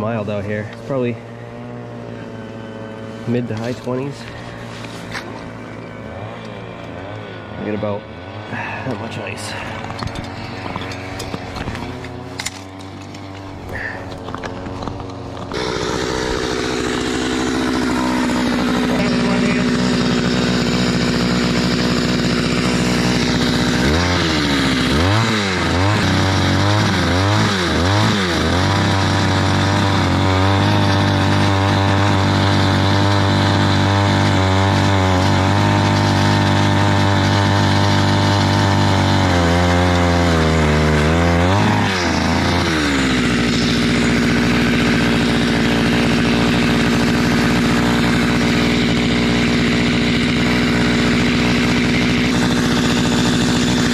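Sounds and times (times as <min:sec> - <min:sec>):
ice auger engine revving: 0:00.0 - 0:53.9.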